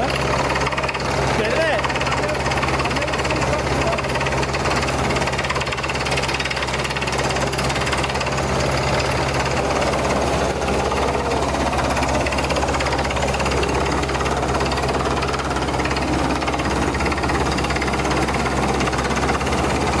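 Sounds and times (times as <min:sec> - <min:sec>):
drilling rig engine drone: 0:00.0 - 0:20.0
fast drilling rattle: 0:00.0 - 0:20.0.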